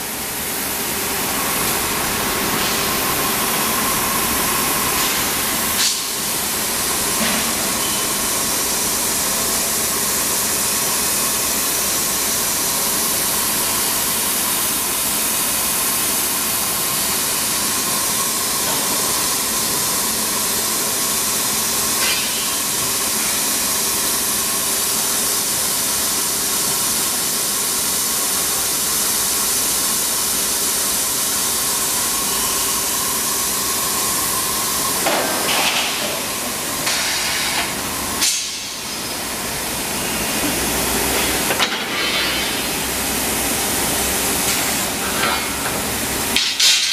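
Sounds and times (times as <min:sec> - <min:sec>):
industrial line hiss and hum: 0:00.0 - 0:46.9.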